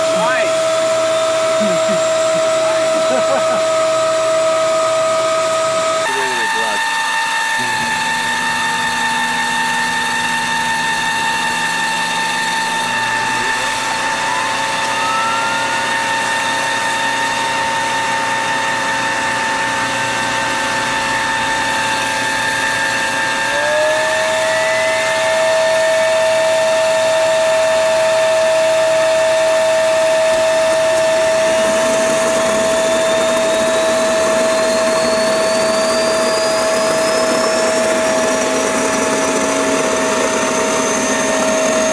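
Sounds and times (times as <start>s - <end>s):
turbocharger high-pitched whine: 0.0s - 41.9s.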